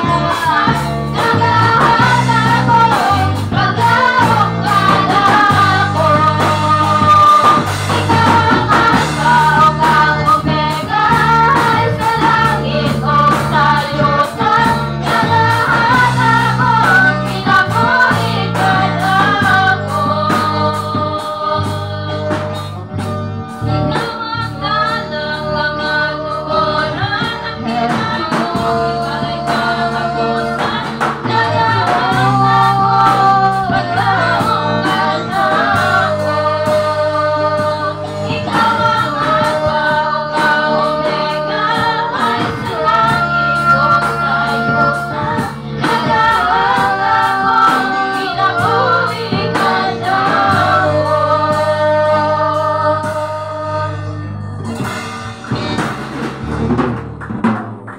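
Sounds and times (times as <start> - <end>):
youth choir singing gospel: 0.0 - 56.6
instrumental accompaniment beat: 0.0 - 57.9.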